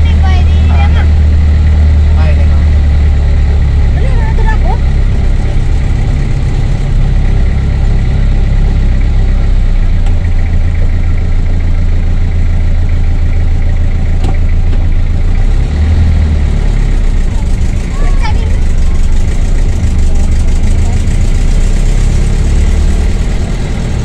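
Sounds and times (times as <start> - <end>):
road rumble: 0.0 - 24.0
vehicle engine drone: 0.0 - 24.0.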